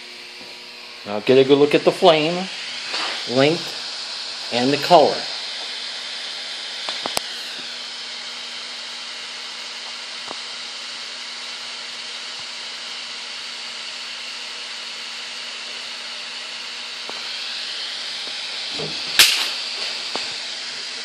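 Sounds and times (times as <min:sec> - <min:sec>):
gas burner hissing: 0:00.0 - 0:21.0.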